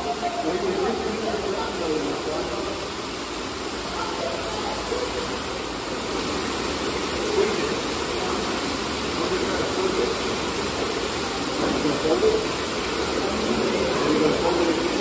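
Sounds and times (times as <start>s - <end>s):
splashing water fountains: 0.0s - 15.0s.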